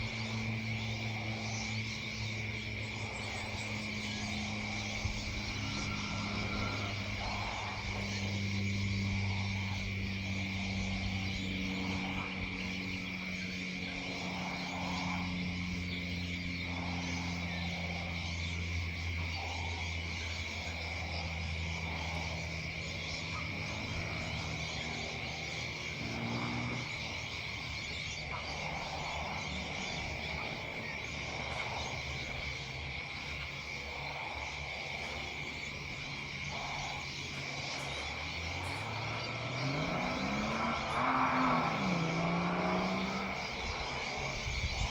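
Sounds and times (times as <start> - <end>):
frogs croaking: 0.0 - 44.9
low drone: 0.0 - 44.9.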